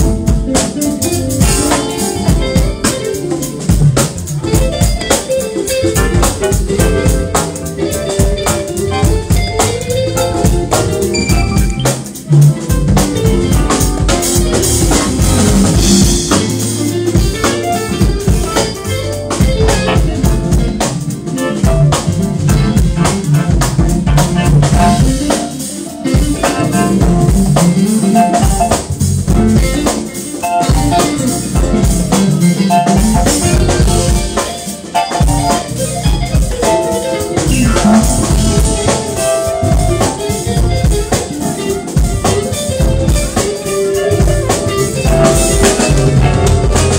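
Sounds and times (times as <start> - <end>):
drum kit and congas: 0.0 - 46.9
electric bass: 0.0 - 46.9
electric guitar: 0.0 - 46.9
keyboards: 0.0 - 46.9
saxophone: 0.0 - 46.9.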